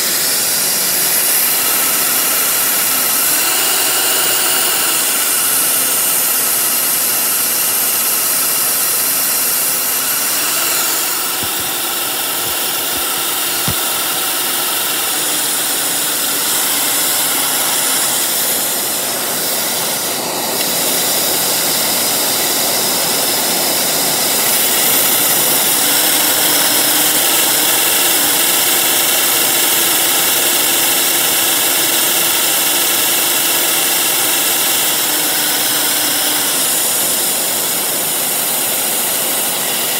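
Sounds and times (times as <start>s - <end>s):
high turbine whine: 0.0s - 39.9s
vacuum cleaner whirring: 0.0s - 39.9s.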